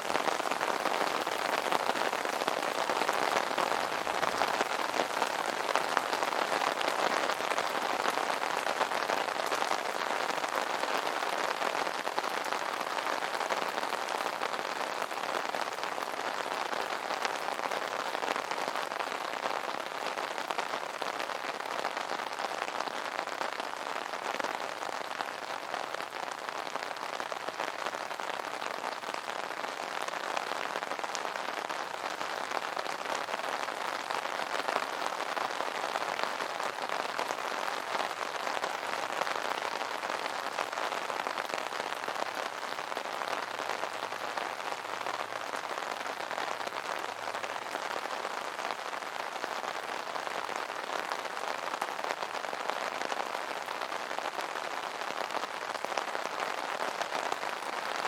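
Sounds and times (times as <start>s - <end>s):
rain pattering on umbrella: 0.0s - 58.0s.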